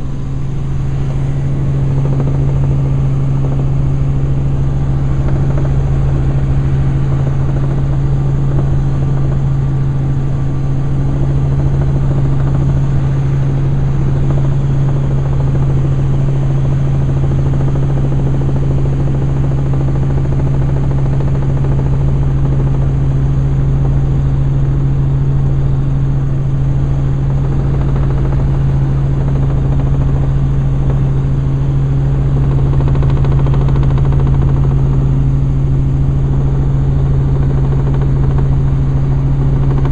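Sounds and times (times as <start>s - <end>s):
helicopter turbine and rotors drone: 0.0s - 39.9s.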